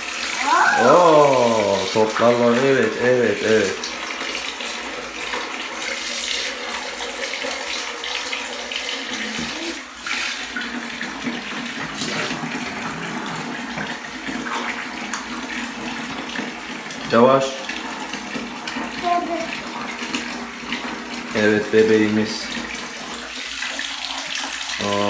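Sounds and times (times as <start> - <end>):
shower water running into bathtub: 0.0 - 25.0.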